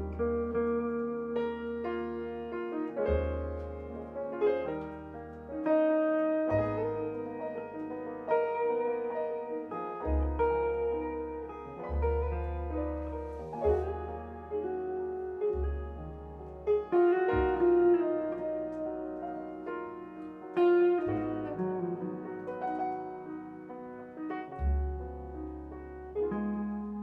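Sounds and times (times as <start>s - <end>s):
electric guitar: 0.0s - 13.1s, 13.8s - 23.7s
double bass notes: 0.0s - 27.0s
piano notes: 0.0s - 27.0s.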